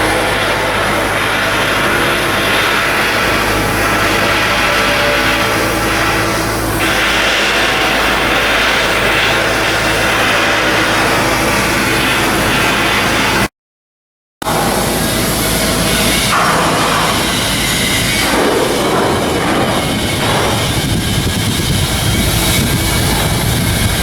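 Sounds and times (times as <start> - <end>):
continuous hum: 0.0 - 13.5, 14.4 - 24.0
shipyard machinery: 0.0 - 13.5, 14.4 - 24.0.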